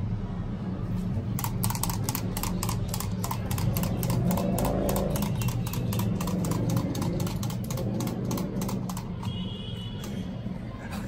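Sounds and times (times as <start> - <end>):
toy mechanism clicking: 1.4 - 10.3.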